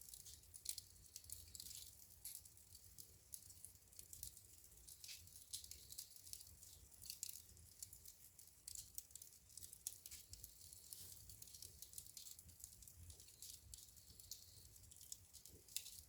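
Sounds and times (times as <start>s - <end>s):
fire crackling and popping: 0.0s - 16.0s
low fire rumble: 0.0s - 16.0s.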